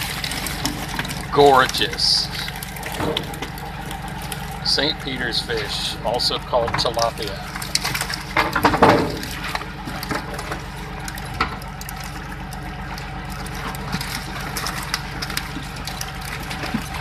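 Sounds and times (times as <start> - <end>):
low steady hum: 0.0 - 17.0
water splashing and trickling: 0.0 - 17.0.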